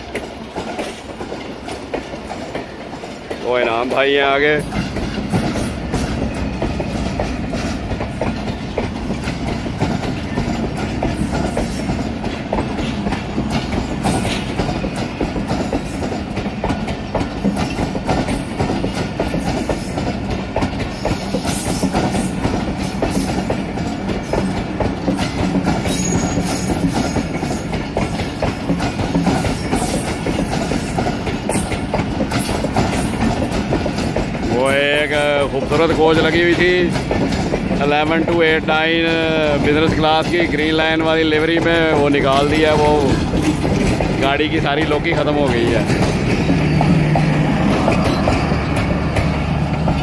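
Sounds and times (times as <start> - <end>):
train wheels clattering over rail joints: 0.0 - 50.0.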